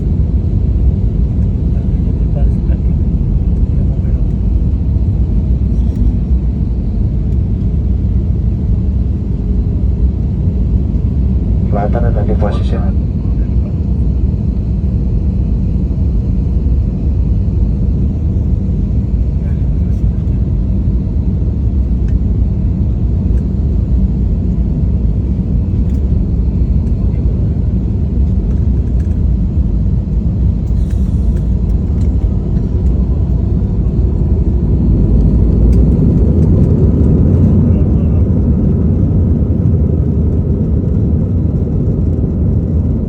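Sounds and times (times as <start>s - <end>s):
airliner engine rumble: 0.0s - 43.0s.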